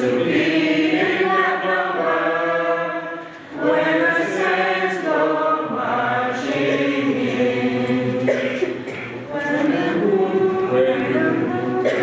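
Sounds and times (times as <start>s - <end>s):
congregation singing a hymn: 0.0s - 12.0s.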